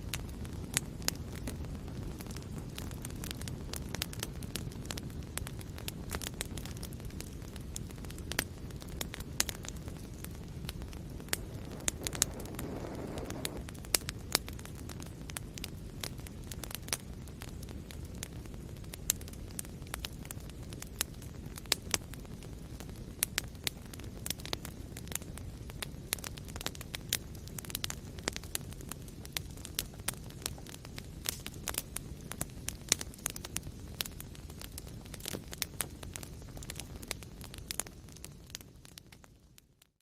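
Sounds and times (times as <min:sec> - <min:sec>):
fire low rumble: 0:00.0 - 0:39.9
fire crackling and popping: 0:00.0 - 0:40.0.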